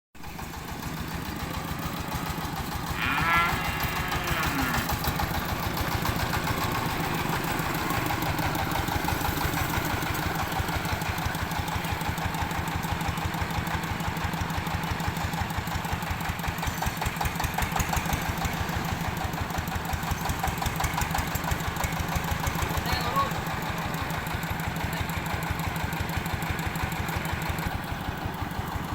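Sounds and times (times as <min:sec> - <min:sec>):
engine running at fast beat: 0:00.2 - 0:28.9.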